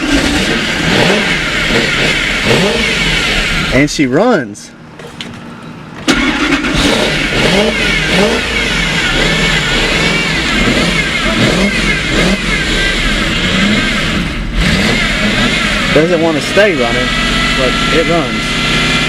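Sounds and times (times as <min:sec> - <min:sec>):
car engine starting: 0:00.0 - 0:19.0
engine running unevenly: 0:00.0 - 0:19.0.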